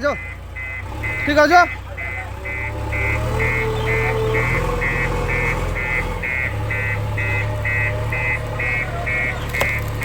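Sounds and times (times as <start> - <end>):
diesel engine running under work: 0.0 - 10.0
reversing alarm beeping: 0.0 - 10.0.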